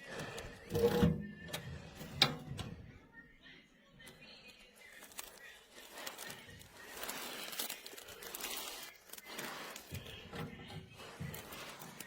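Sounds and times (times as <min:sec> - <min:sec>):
crinkling rustling handling noise: 0:00.0 - 0:12.0.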